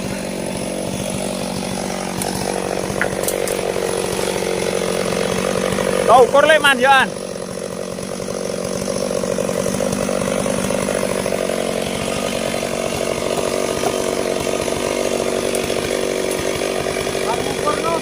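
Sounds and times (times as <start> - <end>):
chainsaw cutting timber: 0.0 - 18.0.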